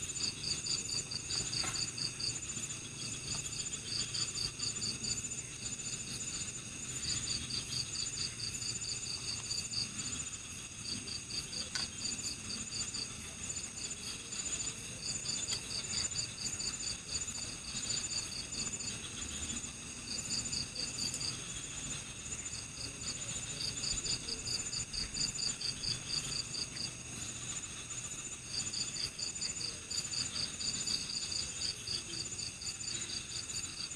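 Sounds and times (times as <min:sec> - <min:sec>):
crickets chirping: 0:00.0 - 0:33.9
high-pitched insect trill: 0:00.0 - 0:33.9.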